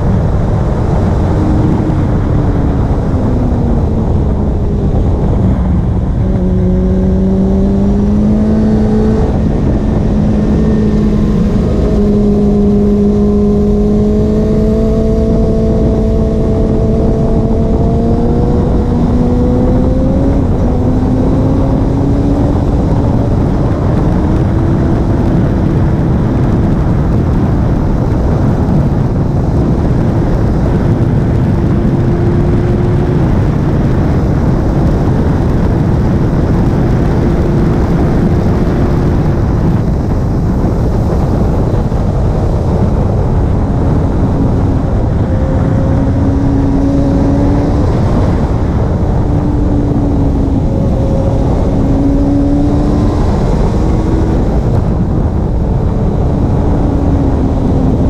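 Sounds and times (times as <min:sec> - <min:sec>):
motorcycle engine at high revs: 0:00.0 - 0:58.0
wind rushing on microphone: 0:00.0 - 0:58.0.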